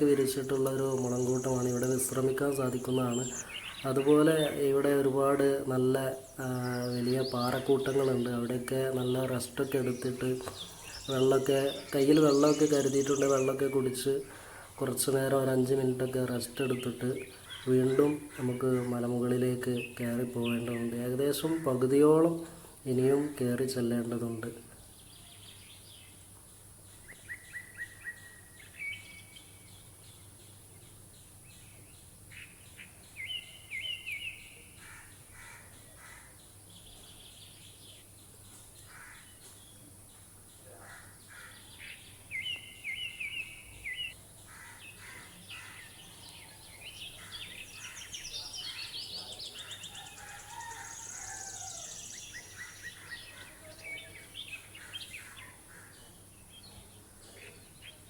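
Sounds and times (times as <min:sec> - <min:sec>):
birds chirping: 0:00.0 - 0:58.0
faint background hiss: 0:00.0 - 0:58.0.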